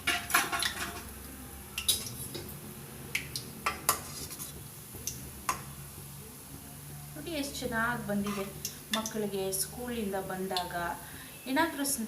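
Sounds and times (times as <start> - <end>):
oil sizzling: 0.0 - 11.2.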